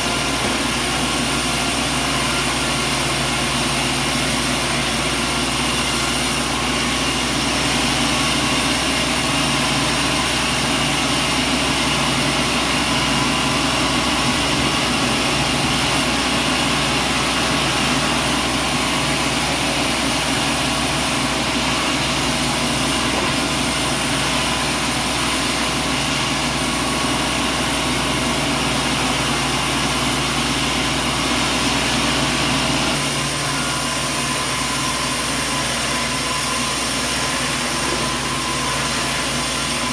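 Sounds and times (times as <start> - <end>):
industrial machinery humming: 0.0 - 39.9.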